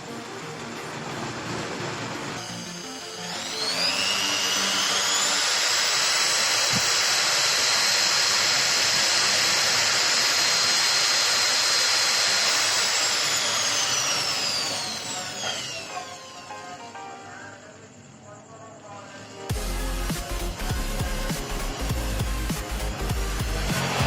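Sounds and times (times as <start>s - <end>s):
angle grinder motor whine: 0.0s - 17.5s, 19.2s - 24.0s.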